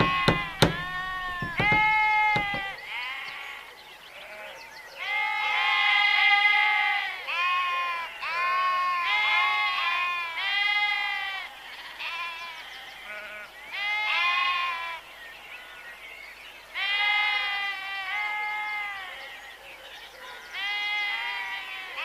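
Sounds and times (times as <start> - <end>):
sheep bleating: 0.0 - 3.6, 4.2 - 15.0, 16.8 - 19.1, 20.6 - 22.0.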